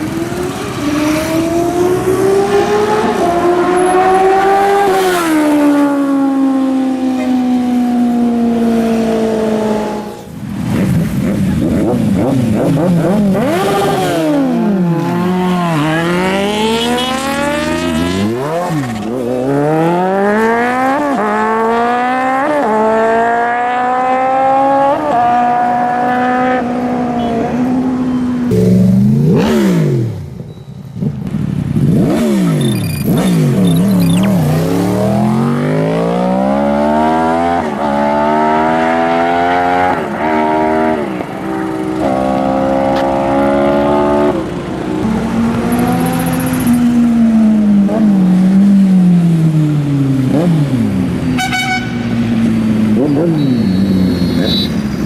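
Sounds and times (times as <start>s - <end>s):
superbike engines revving: 0.0s - 55.0s.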